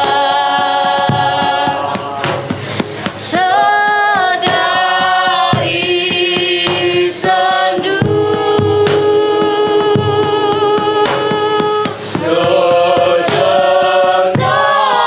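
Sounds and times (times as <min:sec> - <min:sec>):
sharp percussive knocks: 0:00.0 - 0:15.0
voices singing held notes: 0:00.0 - 0:15.0.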